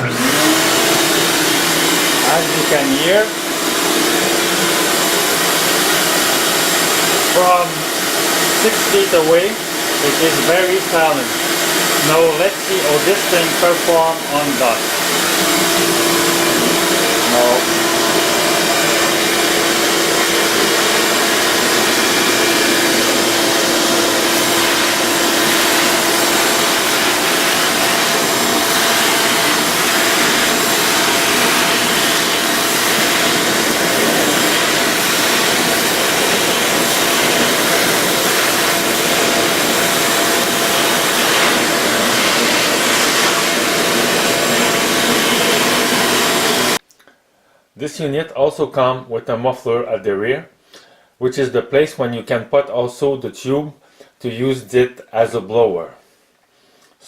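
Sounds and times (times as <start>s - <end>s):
shop vacuum running: 0.0s - 46.8s.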